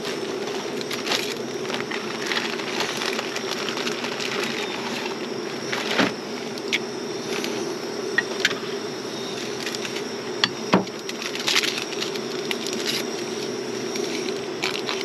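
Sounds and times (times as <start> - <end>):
camp stove buzzing hum: 0.0 - 15.0.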